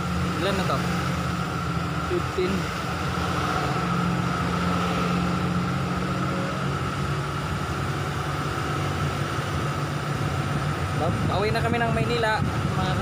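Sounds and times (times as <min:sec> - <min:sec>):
constant high whine: 0:00.0 - 0:13.0
road noise: 0:00.0 - 0:13.0
vehicle engine running: 0:00.0 - 0:13.0.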